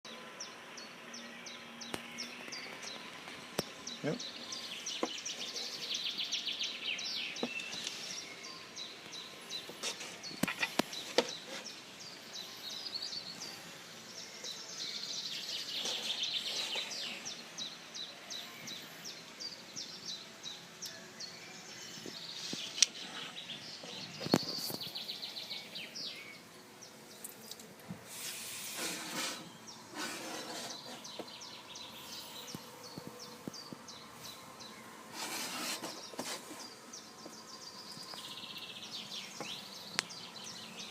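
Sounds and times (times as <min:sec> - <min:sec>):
birds chirping in trills: 0:00.1 - 0:40.9
steady background hiss: 0:00.1 - 0:40.9.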